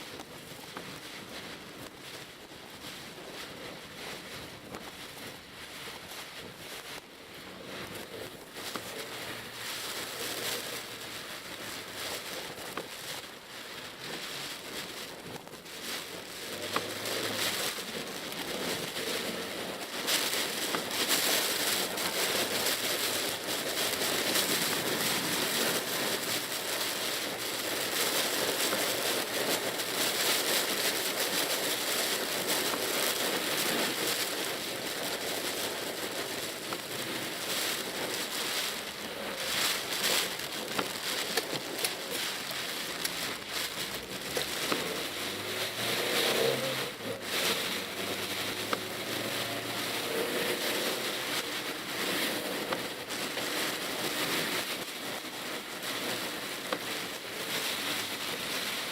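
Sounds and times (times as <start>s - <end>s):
heavy rain on car roof: 0.0s - 58.9s
tyres on wet road: 0.0s - 58.9s.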